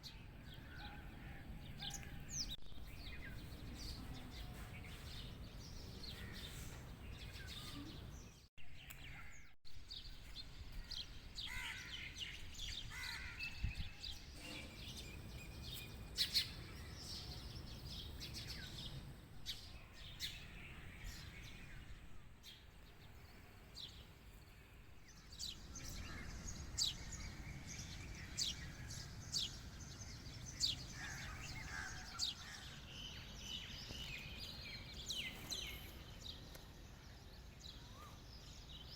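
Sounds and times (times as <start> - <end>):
birds chirping and calling: 0.0 - 22.0, 25.4 - 36.7
outdoor background noise: 0.0 - 38.9.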